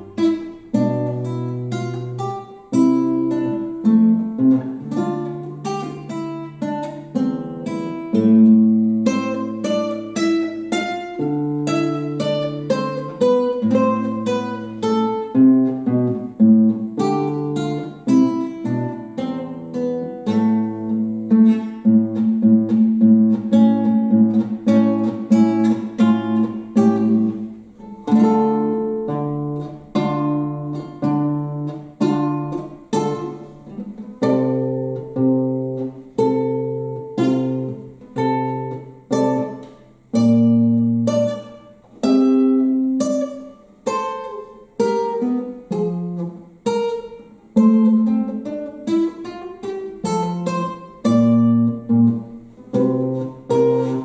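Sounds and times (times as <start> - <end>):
solo classical guitar: 0.0 - 54.0.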